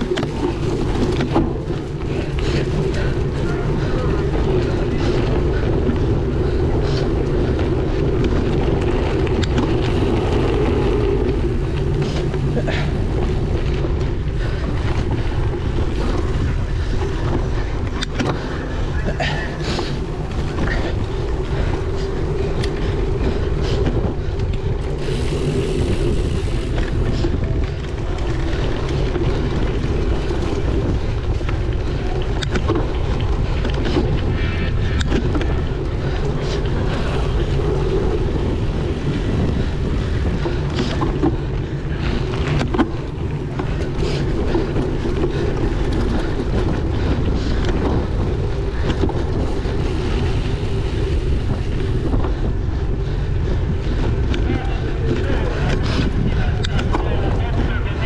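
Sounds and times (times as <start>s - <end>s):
bike rattling over bumps: 0.0s - 58.0s
wind buffeting microphone: 0.0s - 58.0s.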